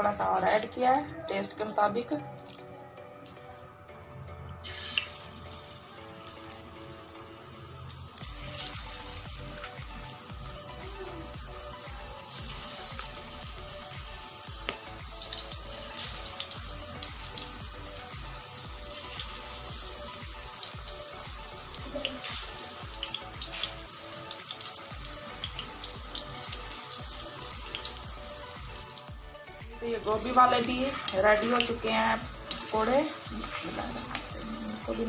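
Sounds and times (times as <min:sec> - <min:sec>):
pakoras sizzling in hot oil: 0:00.0 - 0:02.8, 0:04.5 - 0:35.0.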